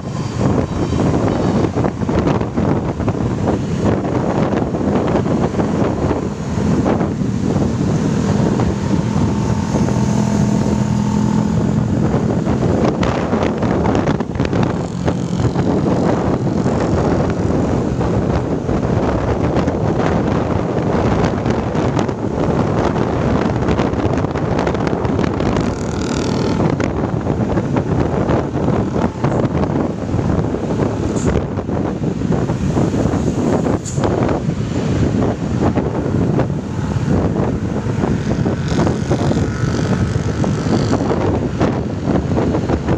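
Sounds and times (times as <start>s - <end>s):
bus engine drone: 0.0s - 42.9s
road and wind noise: 0.0s - 42.9s
wind buffeting microphone: 0.0s - 42.9s.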